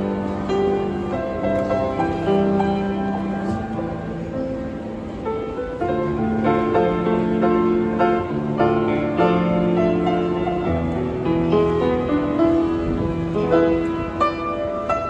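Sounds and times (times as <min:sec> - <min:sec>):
grand piano melody over chords: 0:00.0 - 0:15.0.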